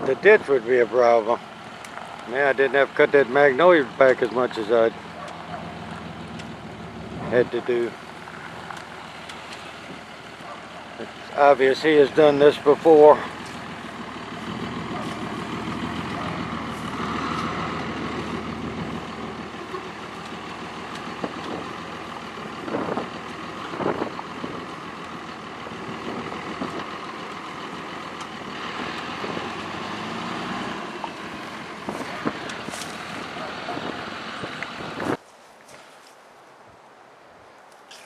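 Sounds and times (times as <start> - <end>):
truck engine running: 0.0 - 35.2.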